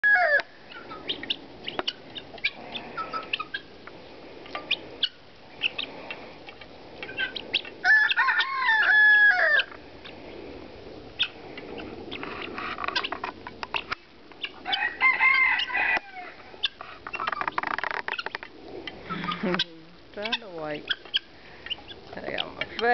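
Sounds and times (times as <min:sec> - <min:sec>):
drawn-out fowl calls: 0:00.0 - 0:22.9.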